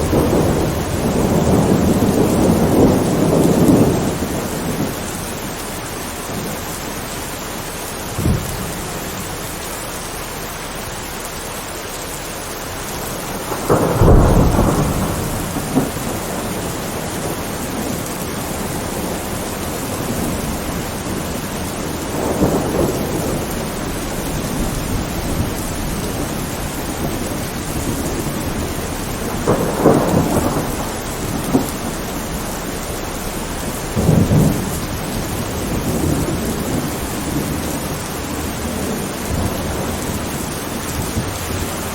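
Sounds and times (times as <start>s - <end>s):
thunder rumbling: 0.0s - 11.1s, 12.1s - 41.9s
heavy rain: 0.0s - 41.9s.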